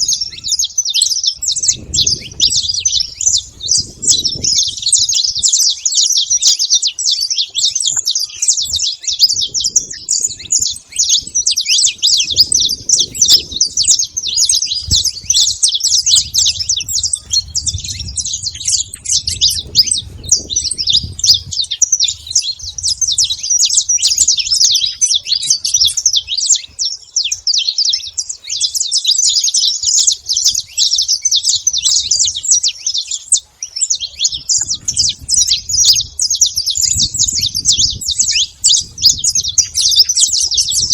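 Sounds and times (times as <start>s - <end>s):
finch singing high chirps: 0.0s - 40.9s.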